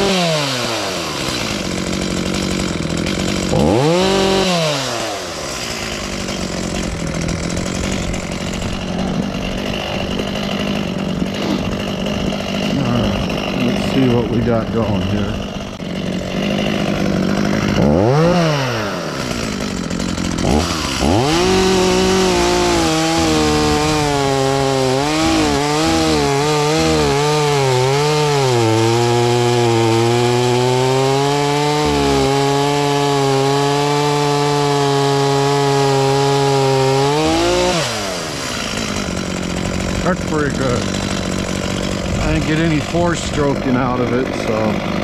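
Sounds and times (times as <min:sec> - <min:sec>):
chainsaw cutting log: 0:00.0 - 0:45.0.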